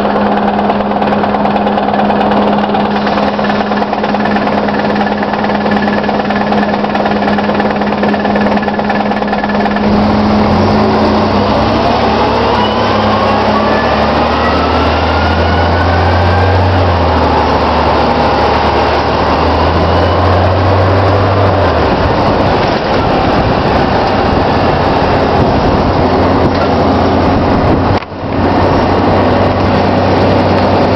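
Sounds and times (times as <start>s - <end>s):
bus engine running: 0.0s - 30.9s
rising drivetrain whine: 0.0s - 30.9s.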